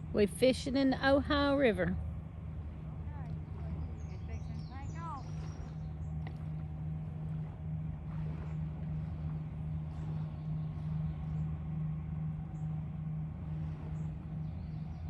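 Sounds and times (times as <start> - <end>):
boat diesel engines droning: 0.0 - 15.0.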